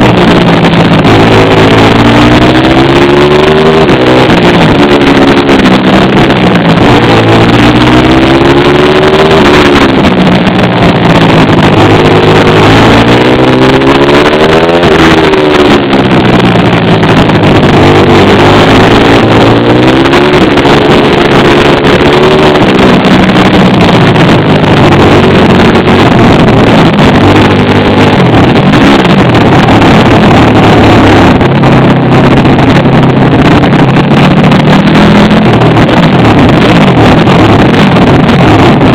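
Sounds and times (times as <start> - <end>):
small motorbike engine revving: 0.0 - 38.9
wind buffeting microphone: 0.0 - 38.9.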